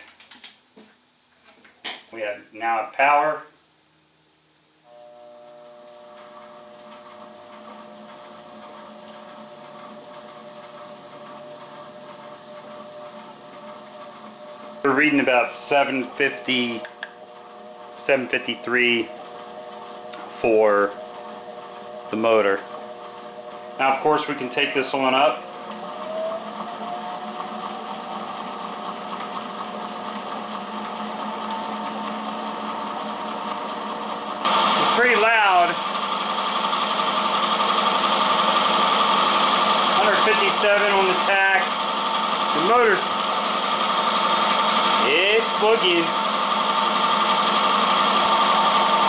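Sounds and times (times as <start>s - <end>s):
electric motor humming: 4.9s - 49.0s.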